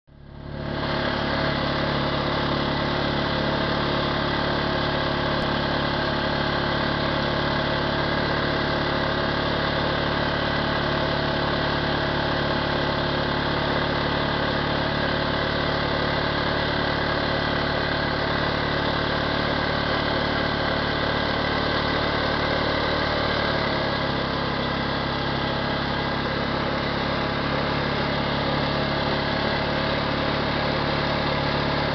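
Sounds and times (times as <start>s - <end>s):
engine running steadily: 0.1s - 31.9s.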